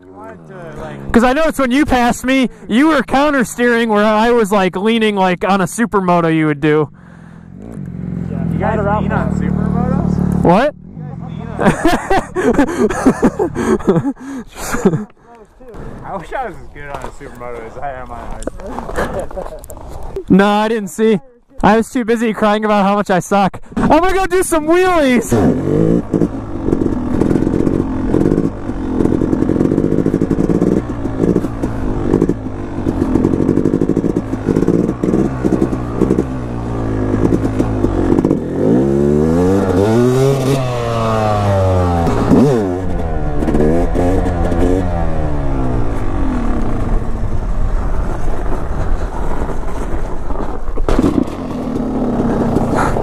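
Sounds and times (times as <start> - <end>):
dirt bike engine revving: 0.0 - 14.8, 23.8 - 53.0.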